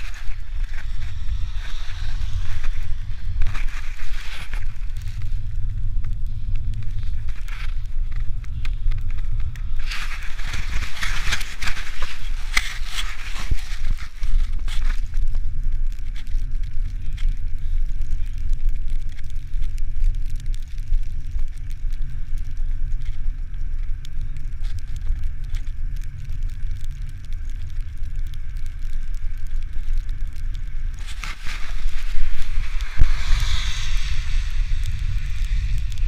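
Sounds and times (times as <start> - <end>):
bicycle tyre noise on wet road: 0.0 - 36.0
crackling: 0.0 - 36.0
wind rumbling on microphone: 0.0 - 36.0.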